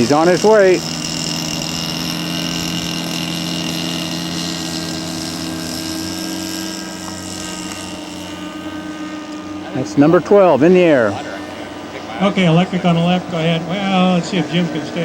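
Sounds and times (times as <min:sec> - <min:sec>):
model airplane engine running: 0:00.0 - 0:15.0.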